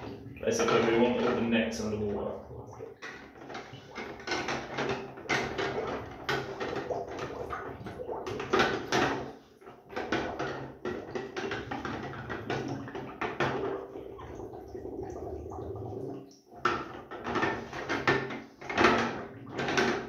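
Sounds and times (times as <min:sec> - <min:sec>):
water sloshing: 0:00.0 - 0:20.0.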